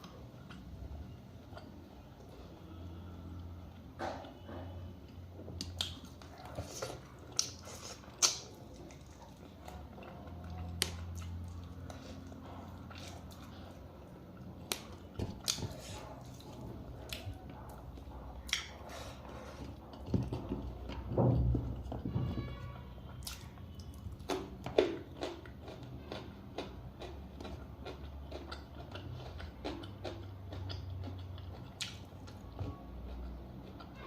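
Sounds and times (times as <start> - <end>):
person chewing soup: 0.0 - 34.0.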